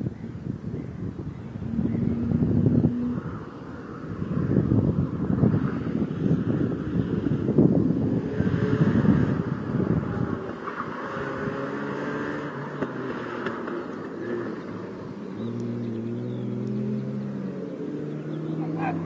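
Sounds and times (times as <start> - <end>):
racing car engine passing: 1.5 - 19.0.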